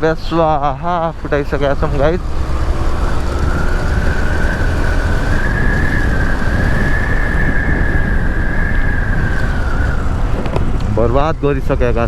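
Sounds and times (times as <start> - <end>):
high-pitched whine: 0.0 - 12.0
wind and engine rumble: 0.0 - 12.0.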